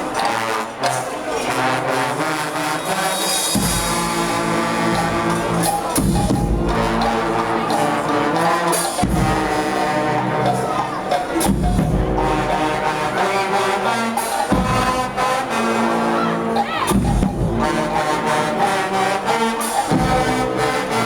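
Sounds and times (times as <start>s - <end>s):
brass marching band playing: 0.0s - 21.0s.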